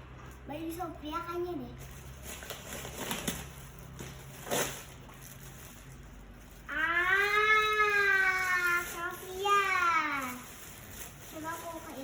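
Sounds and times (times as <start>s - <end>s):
gift packaging rustling: 1.8s - 12.0s.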